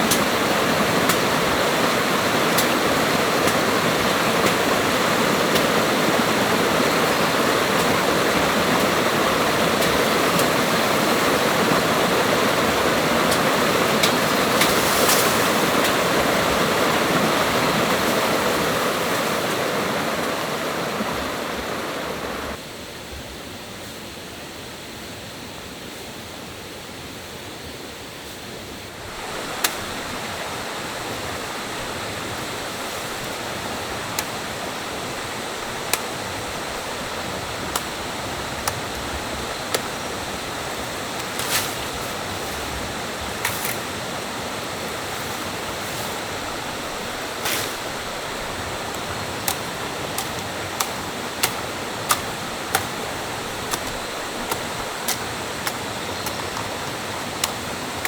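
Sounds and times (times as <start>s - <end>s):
rushing stream water: 0.0s - 22.6s, 28.6s - 58.0s.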